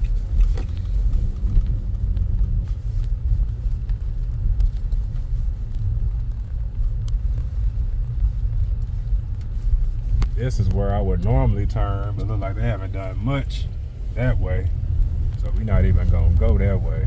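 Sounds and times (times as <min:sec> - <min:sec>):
car tyres and engine rumbling: 0:00.0 - 0:17.0.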